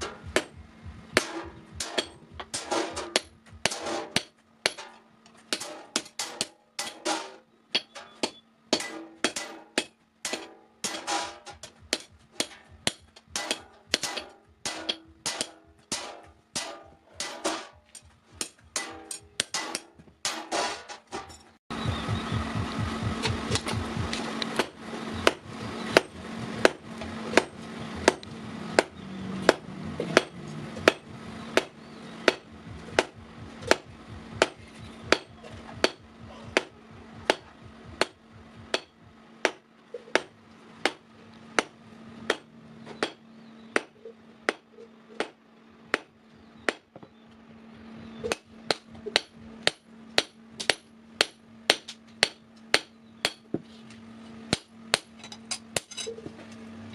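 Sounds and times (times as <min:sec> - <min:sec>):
hammer striking steel on anvil: 0:00.0 - 0:21.6, 0:23.1 - 0:47.2, 0:48.1 - 0:53.6, 0:54.5 - 0:56.3
steady low hum: 0:00.0 - 0:56.9.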